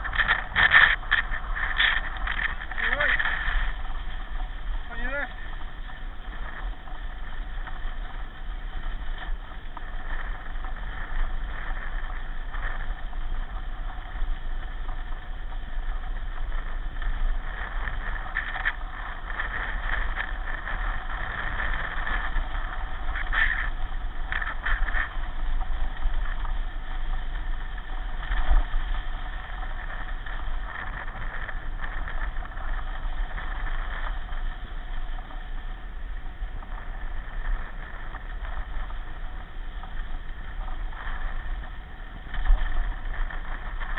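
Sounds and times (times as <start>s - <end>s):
constant low hum: 0.0s - 43.9s
pedal car rolling on track: 0.0s - 43.9s.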